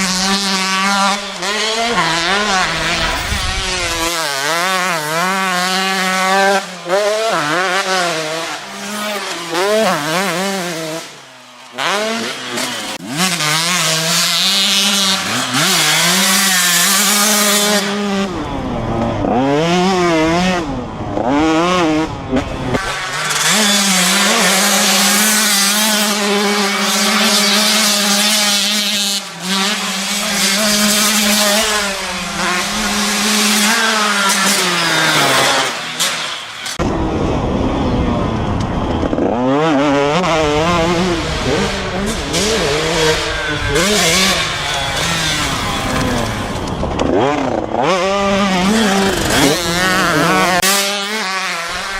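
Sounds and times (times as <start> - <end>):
motorcycle-like engine revving: 0.0 - 51.9.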